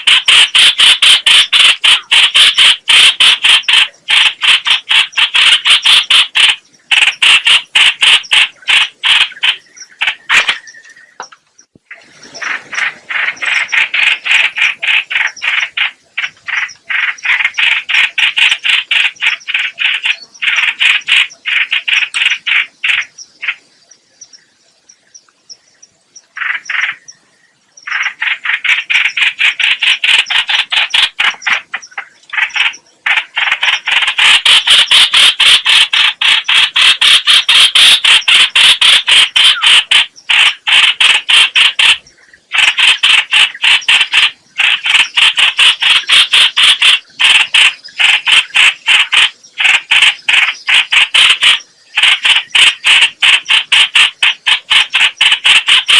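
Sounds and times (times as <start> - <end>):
bird chattering song: 0.0 - 55.9.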